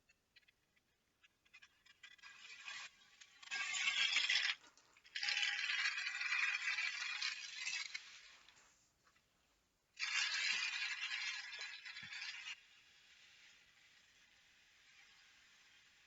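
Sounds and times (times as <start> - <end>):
toy train wheels rattling on track: 1.2 - 8.6, 10.0 - 16.0.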